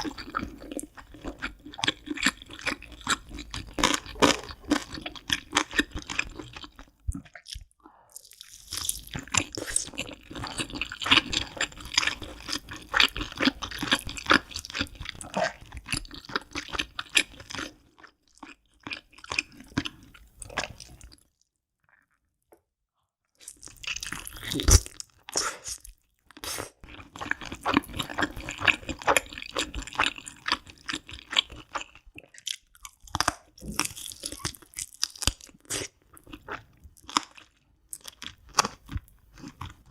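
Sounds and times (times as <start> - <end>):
chewing with crisp crunches: 0.0 - 22.3, 23.3 - 39.9.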